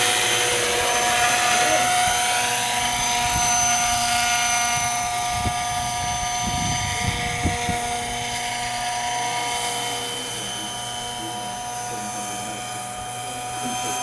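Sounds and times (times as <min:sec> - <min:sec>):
model helicopter motor whine: 0:00.0 - 0:14.0
rotor noise: 0:00.0 - 0:14.0.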